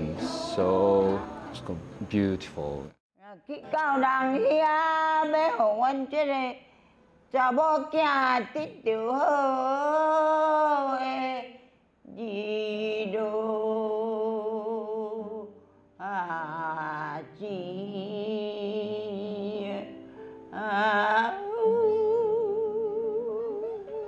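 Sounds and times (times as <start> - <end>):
elderly woman singing folk song: 3.3 - 6.6, 7.3 - 11.5, 12.1 - 24.0.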